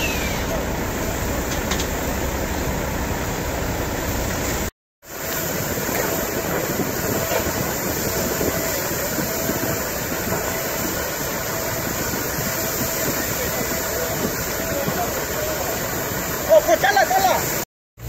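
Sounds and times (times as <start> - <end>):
gas jetting roar: 0.0 - 17.6
fire hoses spraying water: 0.0 - 17.7.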